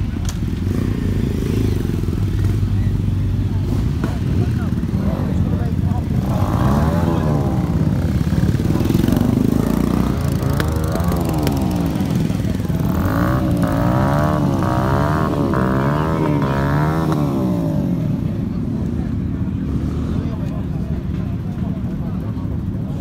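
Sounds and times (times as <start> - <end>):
motorcycle engine revving: 0.0 - 21.2
crowd chatter: 0.0 - 23.0
rumble of other engines: 0.0 - 23.0.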